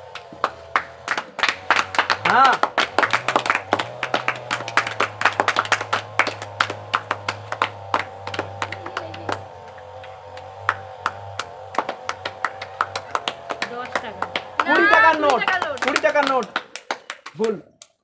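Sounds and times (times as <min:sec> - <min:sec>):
people clapping: 0:00.0 - 0:18.0.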